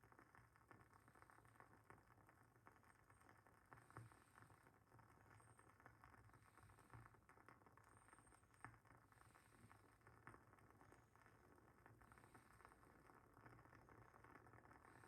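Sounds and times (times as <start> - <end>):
candle wick crackling and popping: 0.0 - 15.0.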